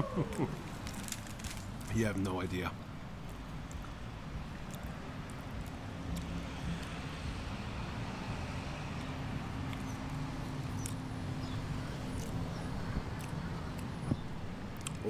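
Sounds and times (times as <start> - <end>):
street traffic: 0.0 - 15.0
vehicle engine humming nearby: 0.0 - 15.0.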